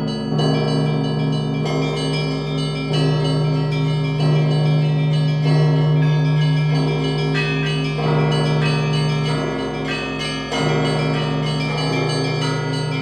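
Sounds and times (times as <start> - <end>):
deep bell humming: 0.0 - 13.0
small bells striking together: 0.0 - 13.0.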